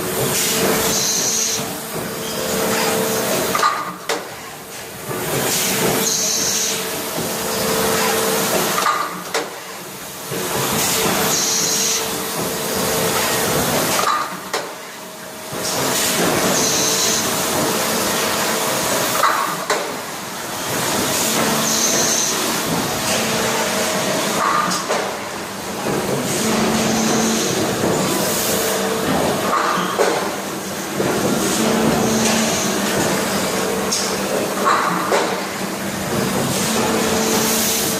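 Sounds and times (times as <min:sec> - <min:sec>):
machine hum and hiss: 0:00.0 - 0:37.9.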